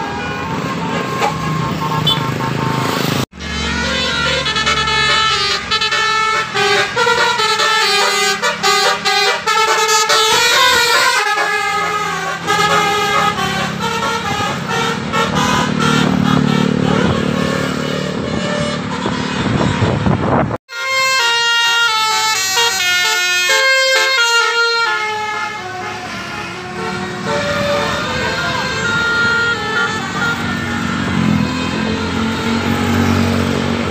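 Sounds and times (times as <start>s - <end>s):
bus engine passing: 0.0s - 20.6s, 21.8s - 33.9s
multi-tone air horns playing melodies: 0.0s - 33.9s.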